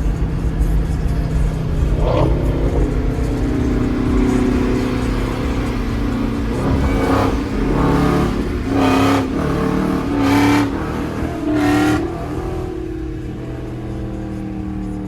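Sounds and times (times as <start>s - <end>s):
car engine revving loudly: 0.0s - 15.0s.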